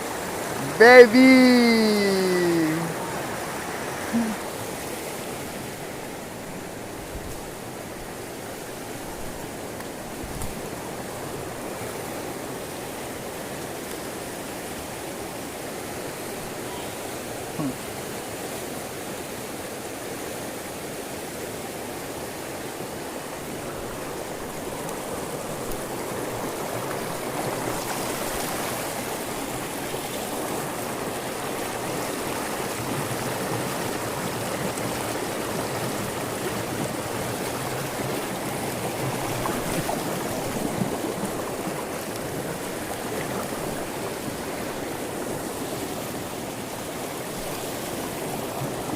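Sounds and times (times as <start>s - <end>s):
river rushing over rocks: 0.0s - 48.9s.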